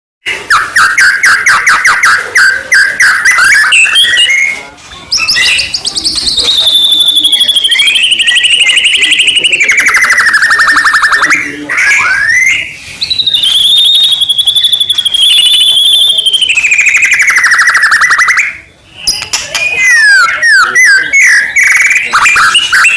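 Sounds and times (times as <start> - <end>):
bird singing trills and whistles: 0.3 - 22.9.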